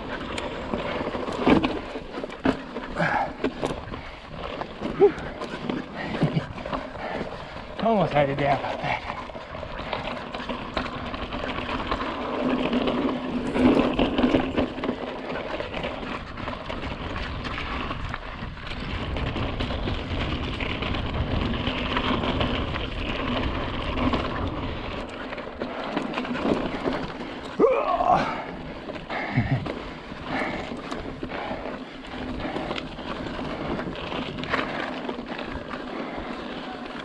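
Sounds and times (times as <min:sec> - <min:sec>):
bike knocks and rattles: 0:00.0 - 0:37.0
bike tyre noise on rock: 0:00.0 - 0:37.0.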